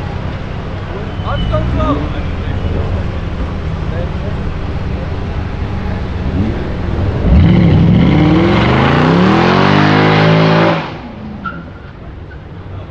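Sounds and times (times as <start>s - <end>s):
car engine accelerating hard: 1.5s - 12.3s.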